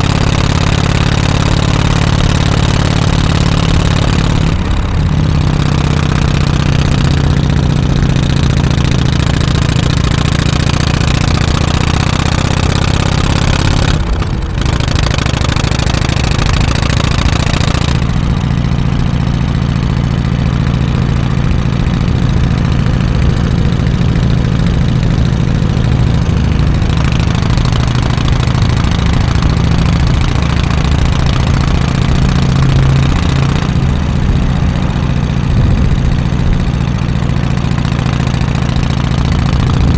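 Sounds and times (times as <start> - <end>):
motorcycle exhaust running: 0.0 - 39.9.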